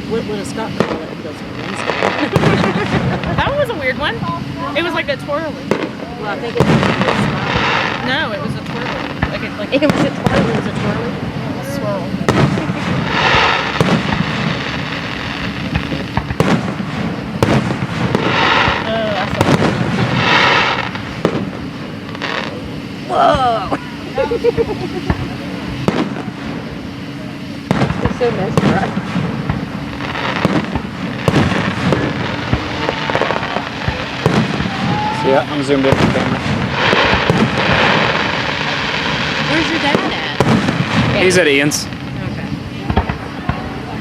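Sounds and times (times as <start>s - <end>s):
firework bangs: 0.0s - 44.0s
fizzing crackle of firework stars: 0.0s - 44.0s.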